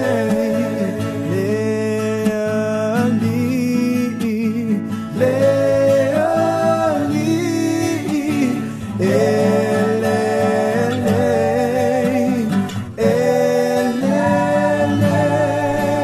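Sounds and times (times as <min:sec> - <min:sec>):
solo voice singing: 0:00.0 - 0:16.0.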